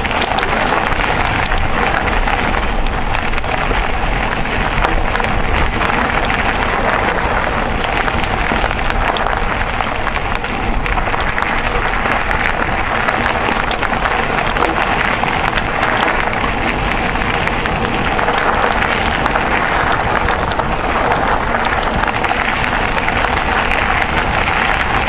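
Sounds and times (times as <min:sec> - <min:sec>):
bike tyres on gravel: 0:00.0 - 0:25.0
stones and bike rattling: 0:00.0 - 0:25.0
wind rush on microphone: 0:00.0 - 0:25.0.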